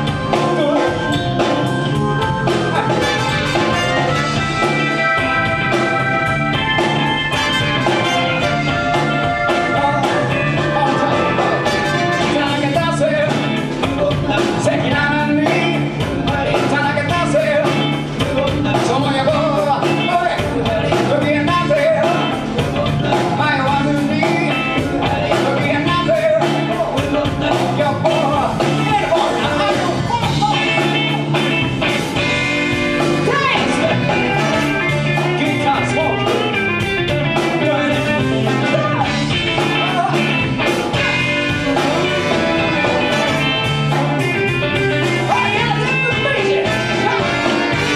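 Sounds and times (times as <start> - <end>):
live rock and roll band: 0.0 - 47.9.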